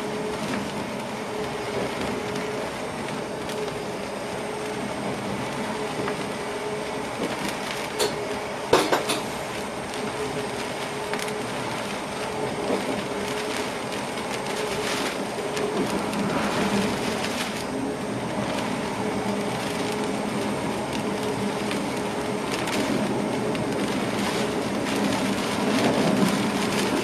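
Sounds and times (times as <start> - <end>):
train rolling with hum: 0.0 - 27.0.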